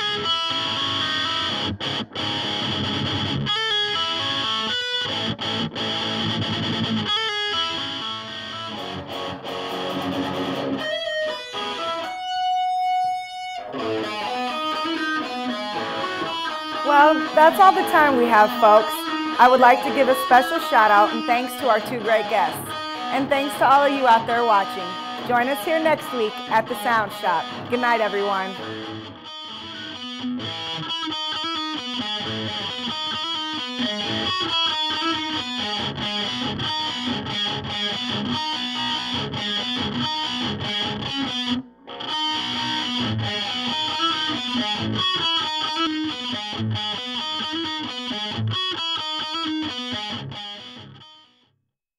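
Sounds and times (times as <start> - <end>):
guitar picked notes: 0.0 - 51.1.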